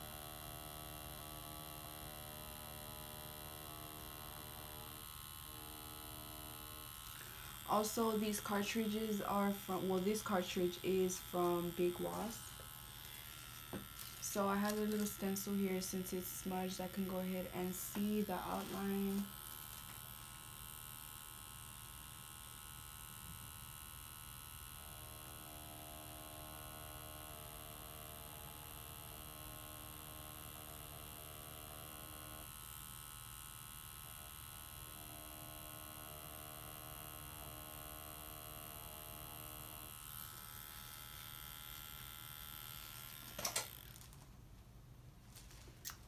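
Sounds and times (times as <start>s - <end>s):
tattoo machine buzzing: 0.0s - 44.3s.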